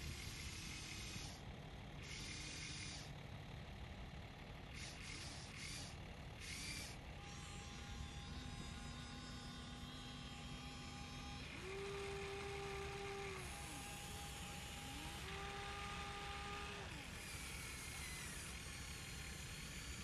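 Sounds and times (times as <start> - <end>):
small electric motor whine: 0.0 - 20.0.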